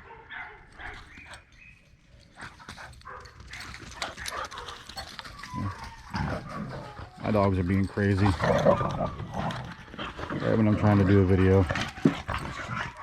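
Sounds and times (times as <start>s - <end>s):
dogs barking excitedly: 0.0s - 1.5s, 2.3s - 13.0s.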